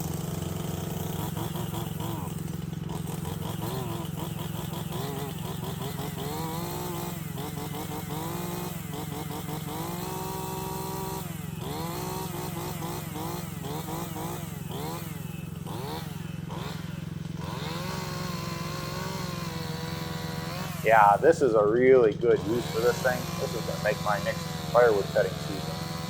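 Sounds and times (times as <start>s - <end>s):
hydraulic whine: 0.0s - 26.0s
mini excavator running: 0.0s - 26.0s.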